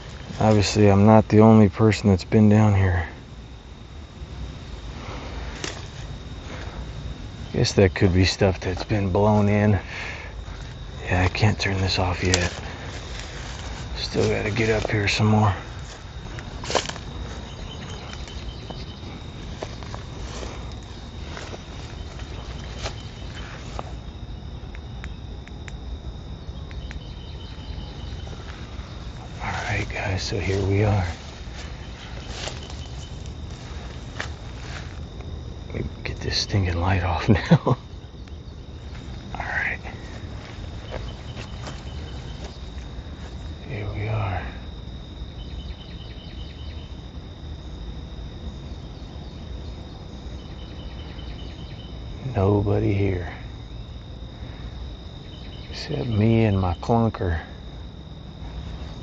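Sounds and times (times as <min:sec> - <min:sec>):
crickets chirring: 0:00.0 - 0:59.0
high-pitched insect trill: 0:00.0 - 0:59.0
low steady rumble: 0:00.0 - 0:59.0.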